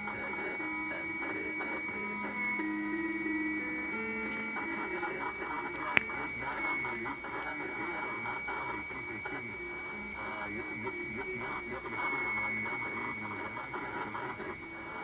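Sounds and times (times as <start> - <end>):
harsh radio noise with garbled speech: 0.0 - 15.0
high-pitched radio whistle: 0.0 - 15.0.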